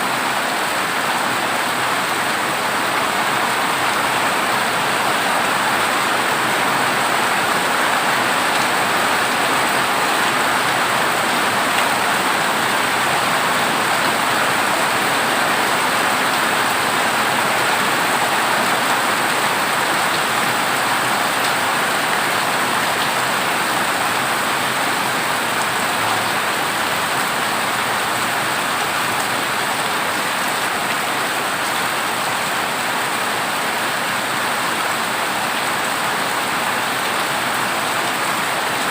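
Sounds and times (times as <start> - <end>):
heavy rain on metal roof: 0.0 - 38.9.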